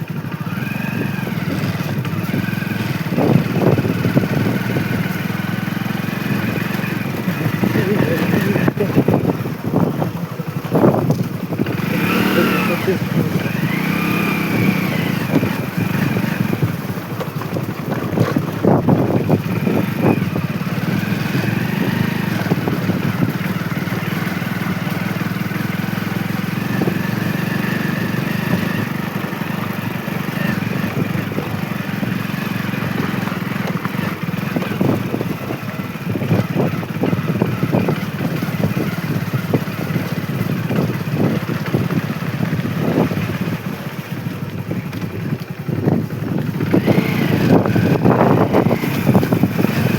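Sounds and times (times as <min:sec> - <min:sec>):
motorcycle engine running: 0:00.0 - 0:49.9
wind buffeting microphone: 0:00.1 - 0:49.9.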